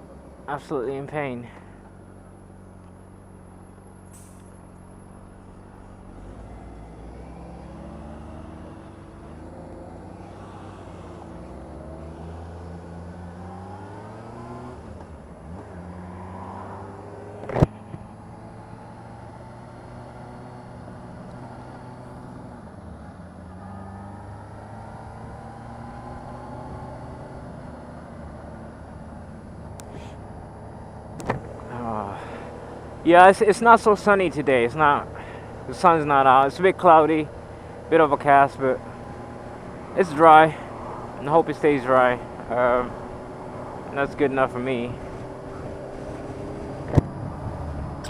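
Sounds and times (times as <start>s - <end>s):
motorcycle engine accelerating: 3.4s - 48.0s.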